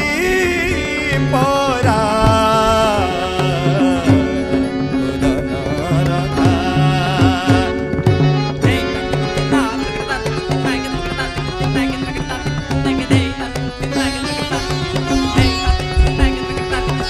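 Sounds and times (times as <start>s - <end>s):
sustained repeating melody: 0.1s - 17.0s.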